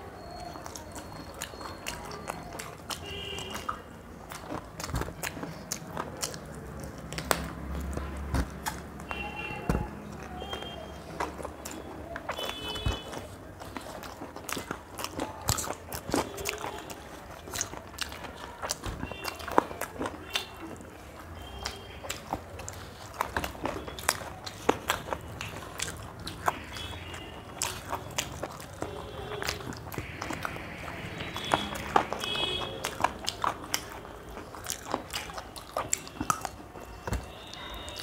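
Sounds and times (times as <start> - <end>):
people chewing chicken: 0.0 - 38.0.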